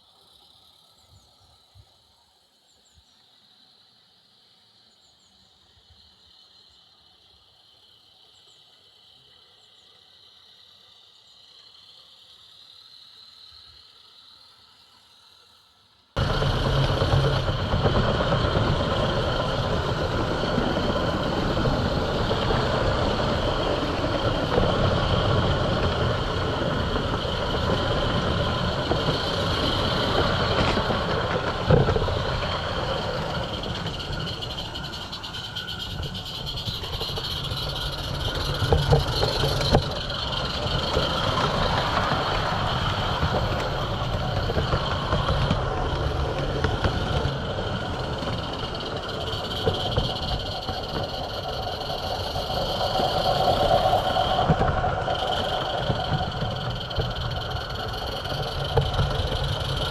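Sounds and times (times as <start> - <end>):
model train running on track: 0.0 - 59.9
insect chirring: 2.6 - 16.4, 17.3 - 59.9.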